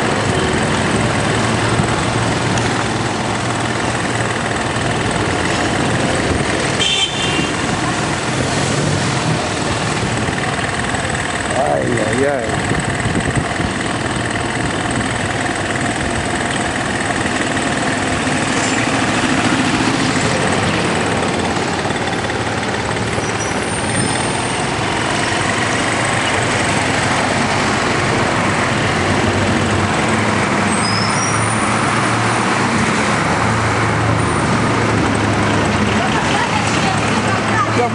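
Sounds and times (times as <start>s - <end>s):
road noise hiss: 0.0s - 37.9s
vehicle engines running: 0.0s - 37.9s.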